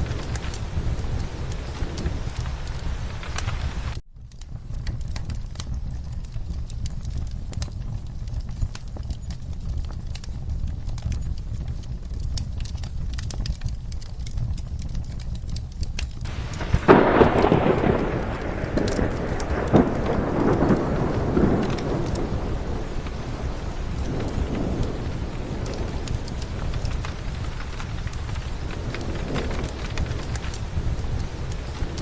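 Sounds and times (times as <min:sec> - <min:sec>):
steady rain: 0:00.0 - 0:32.0
thunderclap rumbling: 0:00.0 - 0:32.0
wood fire crackling: 0:00.0 - 0:32.0.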